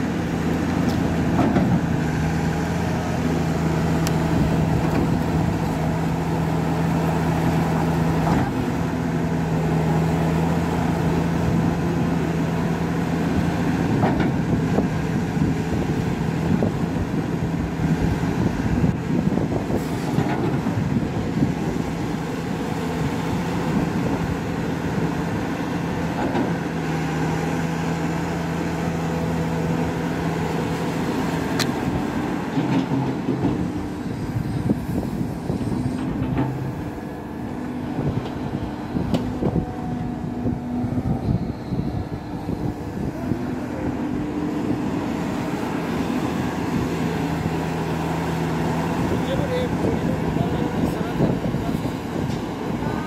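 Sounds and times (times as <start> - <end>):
excavator diesel engine droning: 0.0 - 53.0.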